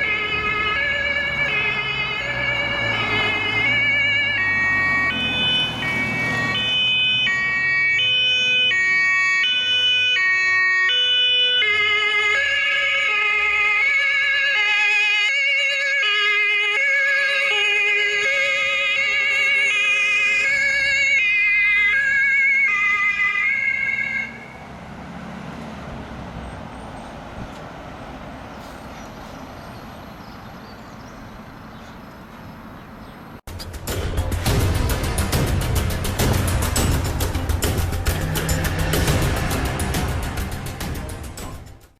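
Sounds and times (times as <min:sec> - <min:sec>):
two-tone sirens passing: 0:00.0 - 0:33.4, 0:34.7 - 0:41.9
road and engine noise: 0:00.0 - 0:41.9.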